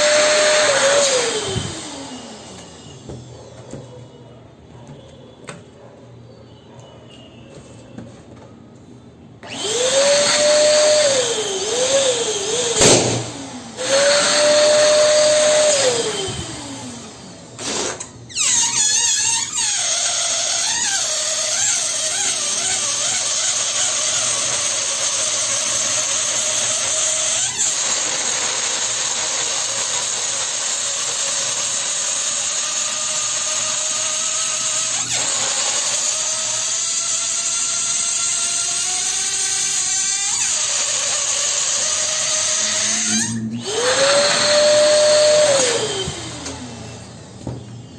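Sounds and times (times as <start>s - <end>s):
electric balloon pump whining: 0.0s - 4.1s, 9.4s - 47.9s.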